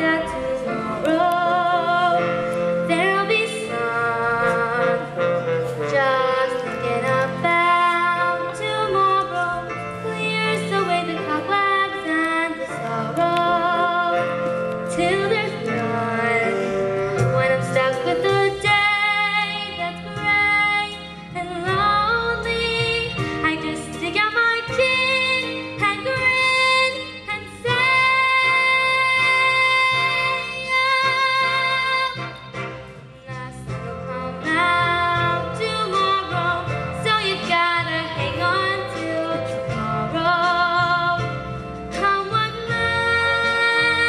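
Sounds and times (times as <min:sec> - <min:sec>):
girl singing: 0:00.0 - 0:05.1, 0:05.9 - 0:14.3, 0:14.9 - 0:32.3, 0:33.2 - 0:41.3, 0:42.0 - 0:44.0
instrumental accompaniment: 0:00.0 - 0:44.0.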